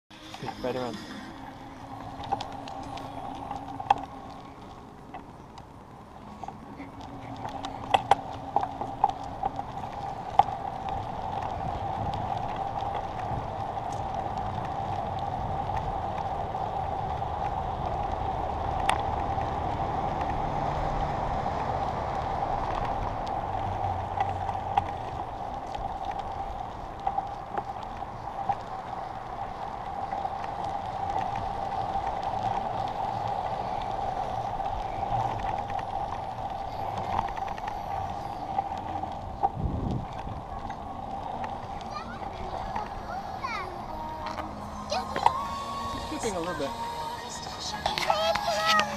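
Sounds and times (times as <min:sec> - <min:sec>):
bicycle rolling over asphalt: 0:00.1 - 0:48.9.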